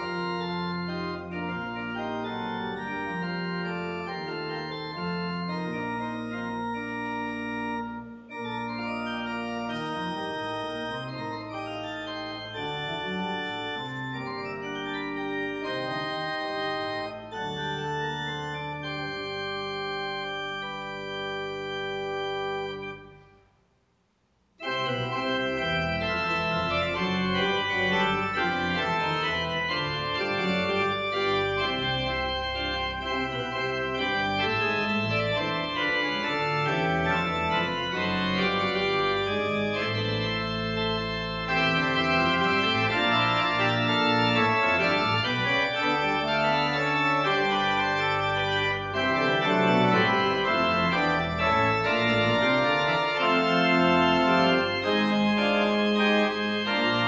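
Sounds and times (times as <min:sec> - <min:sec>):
church organ chords: 0:00.0 - 0:23.6, 0:24.6 - 0:57.0.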